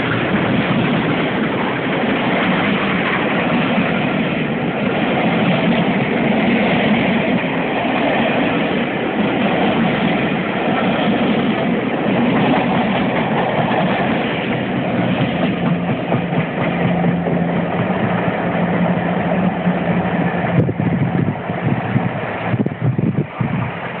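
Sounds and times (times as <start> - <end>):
train coaches rolling past: 0.0 - 24.0.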